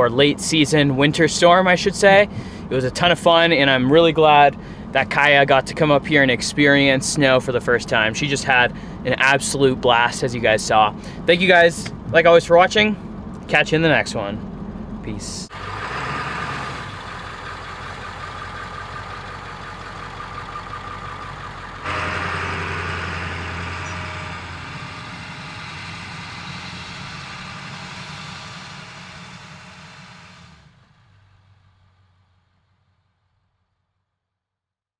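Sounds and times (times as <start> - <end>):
diesel truck engine running: 0.0 - 32.6.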